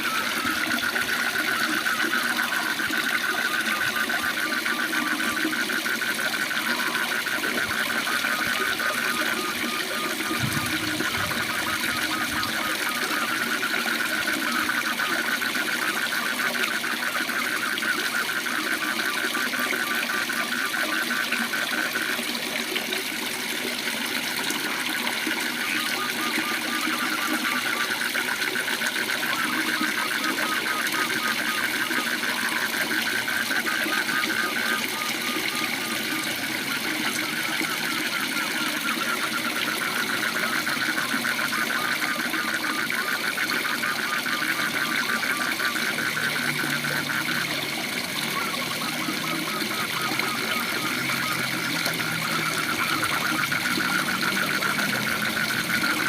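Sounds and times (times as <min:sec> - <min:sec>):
frogs trilling in chorus: 0:00.0 - 0:56.0.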